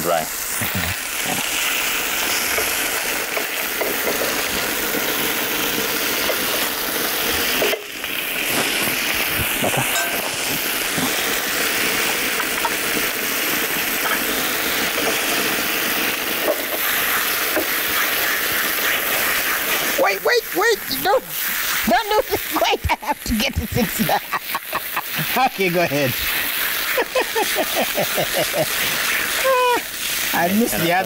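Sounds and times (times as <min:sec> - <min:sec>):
chicken sizzling in butter: 0:00.0 - 0:31.0.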